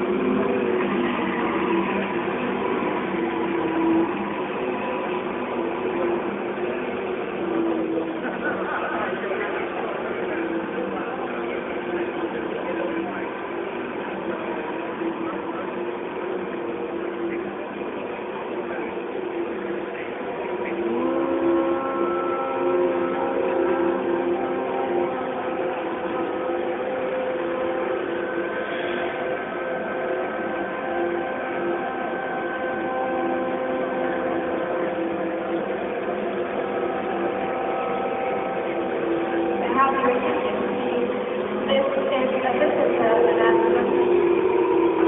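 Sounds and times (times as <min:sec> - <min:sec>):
crowd hubbub: 0:00.0 - 0:45.0
model tank motor whine: 0:00.0 - 0:45.0.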